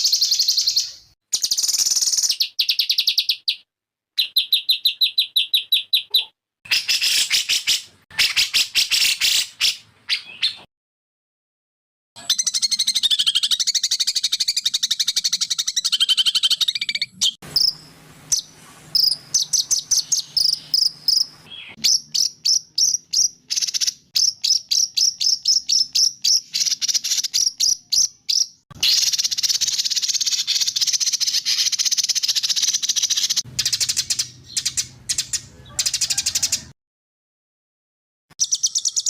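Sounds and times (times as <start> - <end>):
sharp high bird chirps: 0.0 - 10.7, 12.2 - 36.6, 38.3 - 39.0
songbird trilling: 4.2 - 10.6, 12.2 - 36.6, 38.4 - 39.0.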